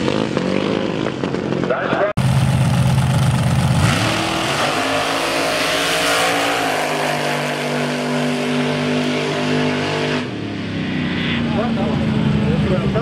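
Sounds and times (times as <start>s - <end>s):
dragster engine at full throttle: 0.0s - 13.0s.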